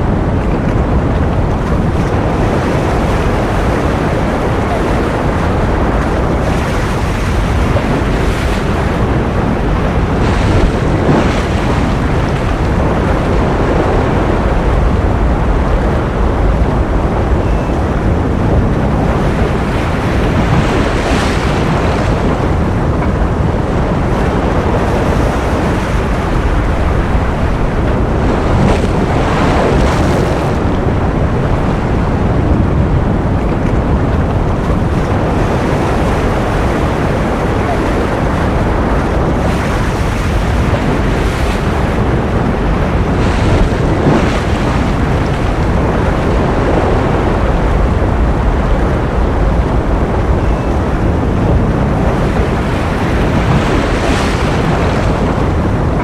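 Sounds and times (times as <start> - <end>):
ocean surf rushing: 0.0 - 56.0.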